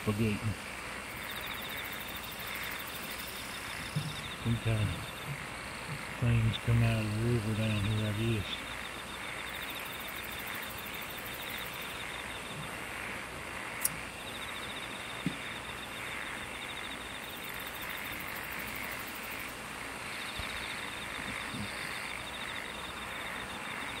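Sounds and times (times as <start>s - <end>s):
even hiss: 0.0s - 23.8s
insects trilling: 0.0s - 24.0s.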